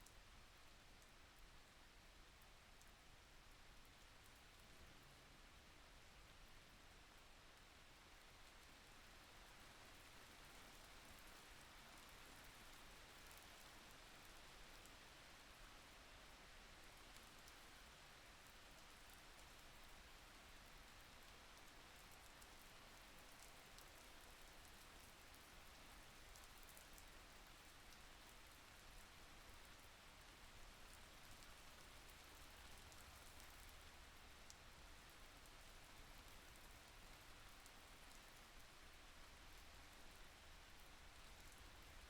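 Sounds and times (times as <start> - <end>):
faint steady rain: 0.0 - 42.0
light raindrop ticks: 0.0 - 42.0.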